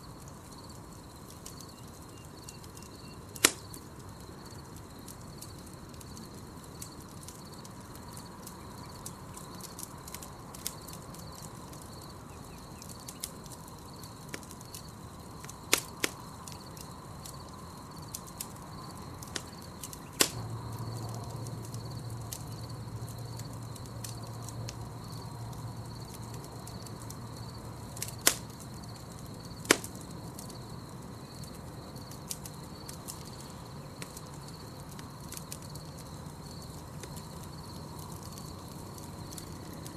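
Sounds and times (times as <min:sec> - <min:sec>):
campfire crackling and popping: 0:00.0 - 0:39.9
night insects chirping: 0:00.0 - 0:39.9.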